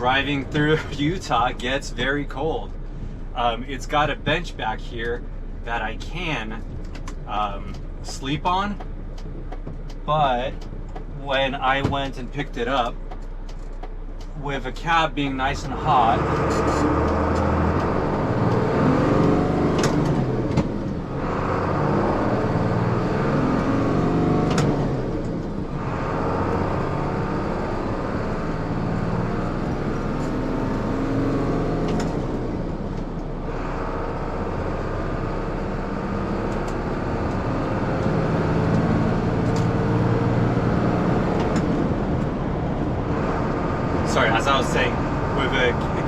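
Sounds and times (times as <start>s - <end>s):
diesel truck engine from cab: 0.0s - 46.0s.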